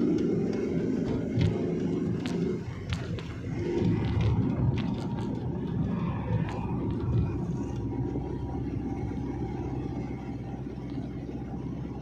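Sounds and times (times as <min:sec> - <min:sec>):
tyres on the road: 0:00.0 - 0:12.0
vehicle engine rumble: 0:00.0 - 0:12.0.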